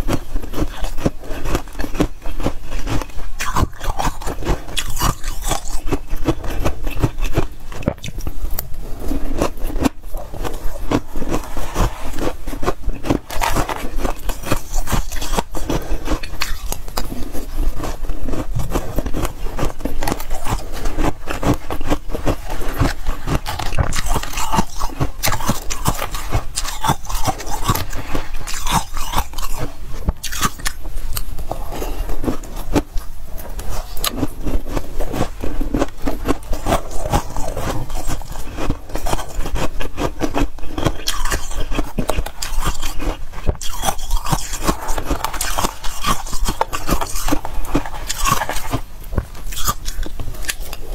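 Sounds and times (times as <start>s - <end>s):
frost crunching while chewed: 0.0s - 50.9s.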